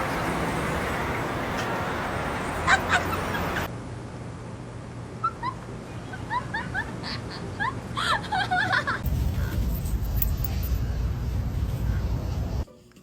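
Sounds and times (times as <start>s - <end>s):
street traffic noise: 0.0s - 12.8s.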